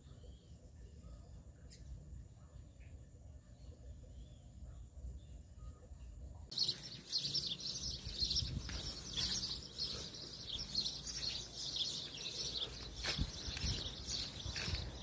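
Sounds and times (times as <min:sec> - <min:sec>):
chorus of small birds chirping: 0:00.0 - 0:15.0.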